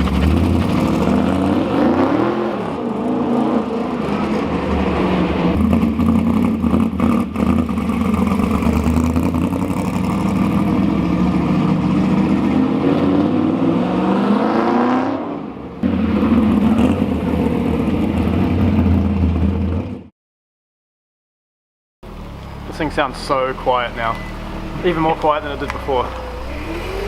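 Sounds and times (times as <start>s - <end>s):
car engine accelerating: 0.0s - 20.1s, 22.0s - 27.0s.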